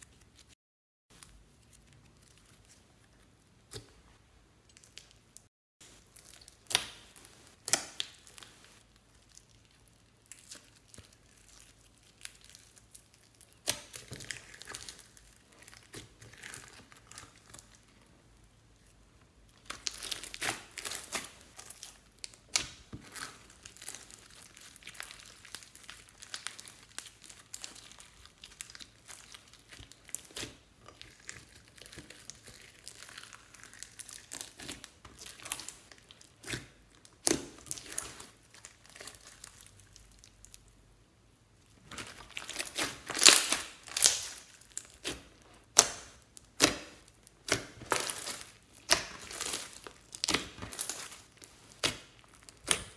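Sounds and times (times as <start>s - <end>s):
slime crackling and popping: 4.6s - 40.8s, 41.6s - 52.9s.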